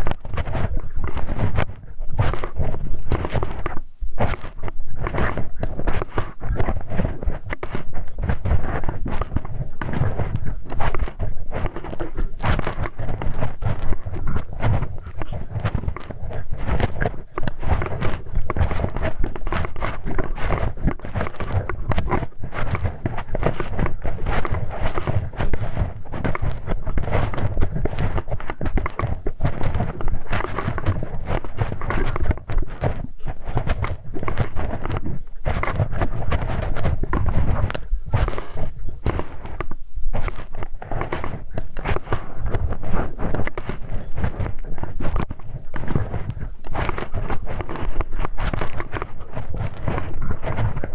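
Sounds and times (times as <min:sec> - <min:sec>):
scraping and rubbing on microphone: 0:00.0 - 0:50.9
small clicks and taps: 0:00.0 - 0:50.9.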